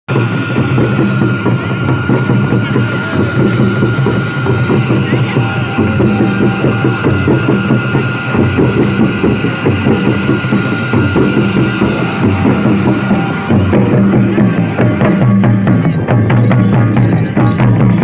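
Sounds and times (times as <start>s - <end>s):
barrel drums played by hand: 0.1s - 18.0s.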